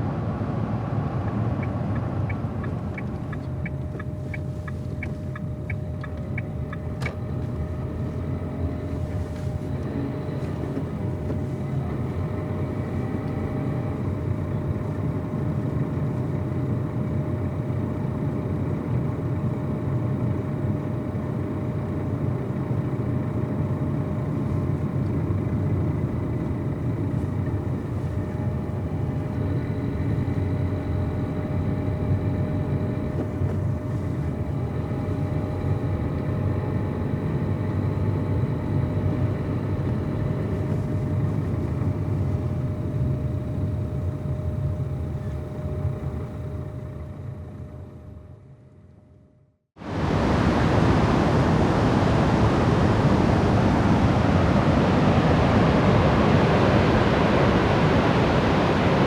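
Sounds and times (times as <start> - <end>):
engine and tyres hum: 0.0 - 59.0
faint steady whine: 0.0 - 59.0.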